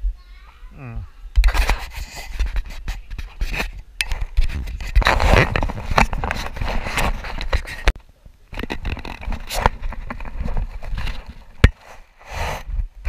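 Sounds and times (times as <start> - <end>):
camera handling scraping: 1.4 - 8.0, 8.6 - 12.7.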